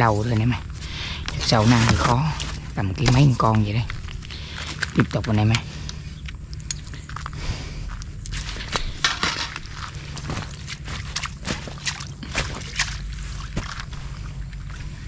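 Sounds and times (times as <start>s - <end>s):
steady low hum: 0.0s - 15.0s
fishing tackle clicks and rustles: 0.2s - 15.0s.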